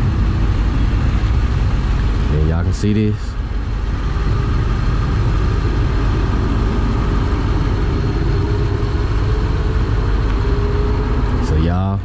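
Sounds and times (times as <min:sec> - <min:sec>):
car engine idling: 0:00.0 - 0:12.0
faint constant hum: 0:00.0 - 0:12.0.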